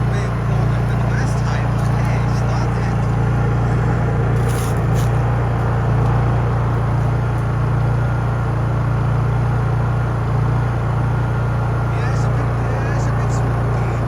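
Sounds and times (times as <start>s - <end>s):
generator engine humming: 0.0s - 14.0s.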